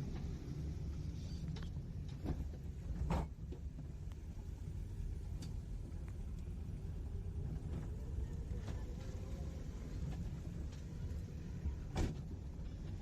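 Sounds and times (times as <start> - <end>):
moving road vehicle rumble: 0.0 - 13.0.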